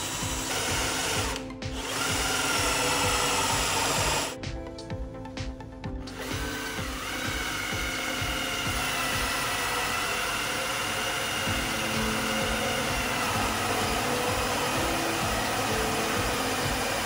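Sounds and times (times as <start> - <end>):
electric drill boring wood: 0.0 - 4.4, 6.0 - 17.0
stick vacuum running: 0.0 - 4.4, 6.0 - 17.0.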